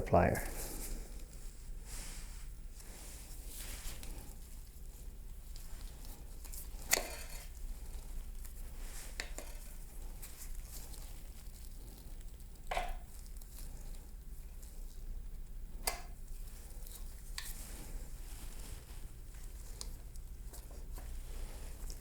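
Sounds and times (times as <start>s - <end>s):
faint rustling and scraping: 0.4s - 15.4s, 16.1s - 22.0s.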